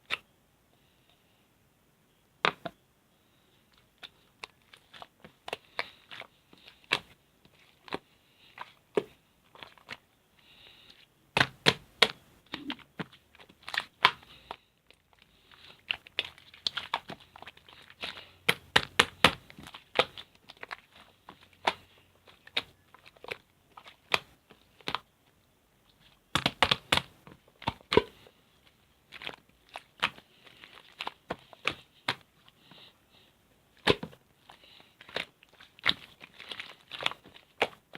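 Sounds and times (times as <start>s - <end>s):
hands squishing slime: 3.7s - 25.1s, 25.8s - 37.9s.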